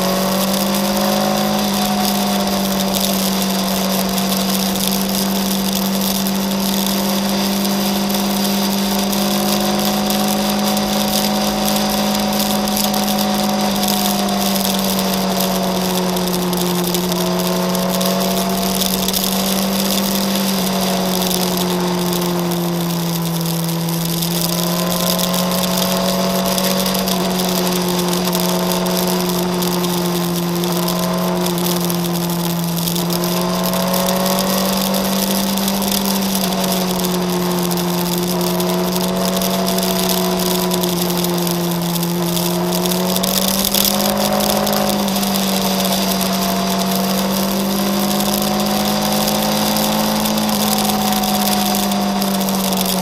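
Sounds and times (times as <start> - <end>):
motorcycle engine cruising: 0.0 - 53.0
wind and road noise hiss: 0.0 - 53.0.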